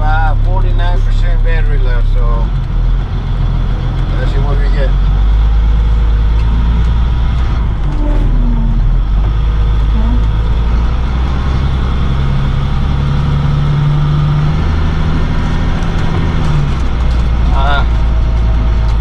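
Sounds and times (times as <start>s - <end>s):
truck engine and road drone: 0.0s - 19.0s.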